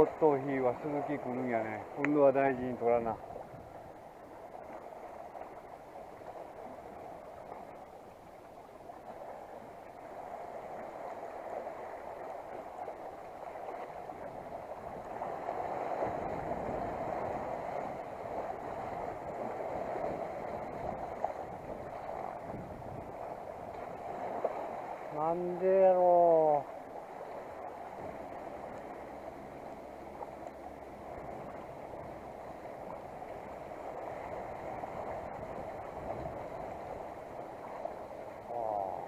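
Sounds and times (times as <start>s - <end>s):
water splashing against rocks: 0.0s - 3.8s, 4.5s - 39.0s.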